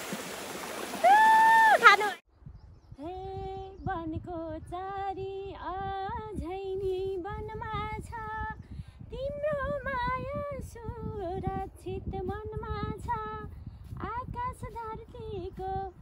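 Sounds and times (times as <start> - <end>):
woman singing unaccompanied: 3.0 - 16.0.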